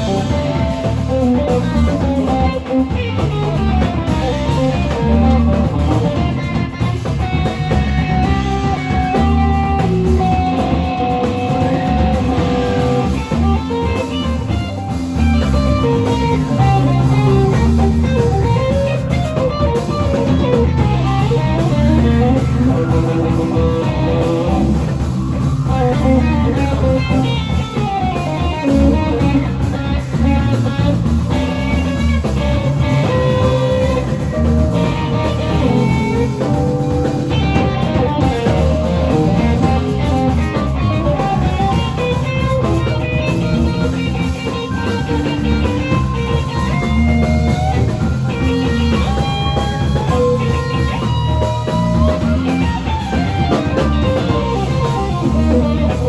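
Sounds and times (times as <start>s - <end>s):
electric bass guitar: 0.0s - 56.0s
electric guitar melody: 0.0s - 56.0s.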